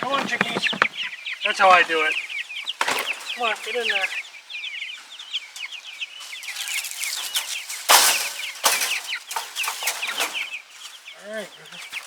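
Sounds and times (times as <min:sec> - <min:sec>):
wings flapping and scuffling: 0:00.0 - 0:02.1, 0:02.7 - 0:04.2, 0:06.0 - 0:12.0
chicks peeping: 0:00.0 - 0:12.0.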